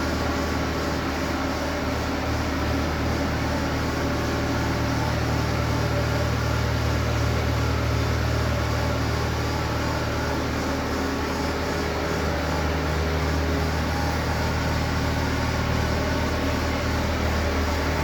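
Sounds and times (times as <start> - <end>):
loader engine running: 0.2 - 18.0.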